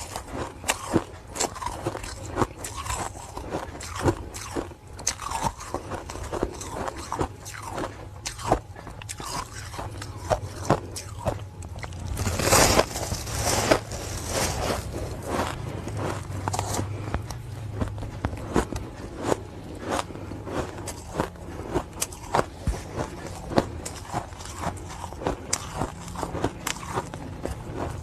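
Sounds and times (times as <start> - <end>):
ice crunching in mouth: 0.0 - 28.0.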